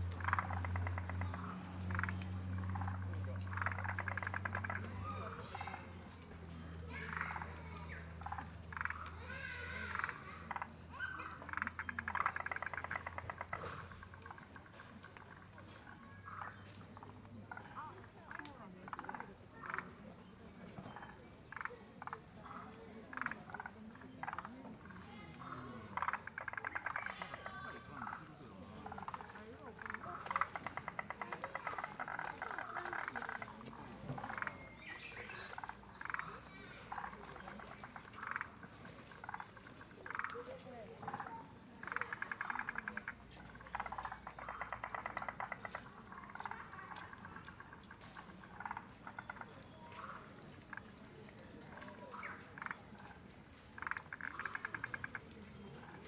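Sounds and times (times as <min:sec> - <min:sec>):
tree frogs croaking: 0:00.0 - 0:56.0.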